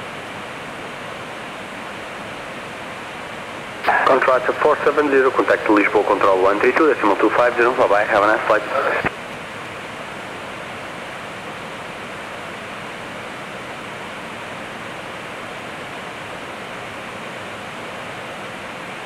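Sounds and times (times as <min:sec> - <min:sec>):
ventilation: 0:00.0 - 0:19.0.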